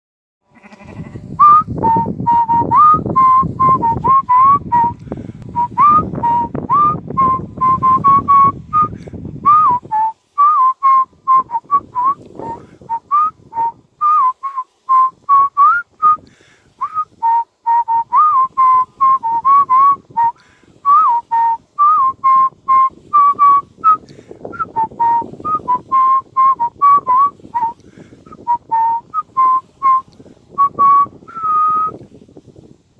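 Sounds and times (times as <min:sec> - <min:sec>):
person whistling a tune: 0:01.4 - 0:32.0.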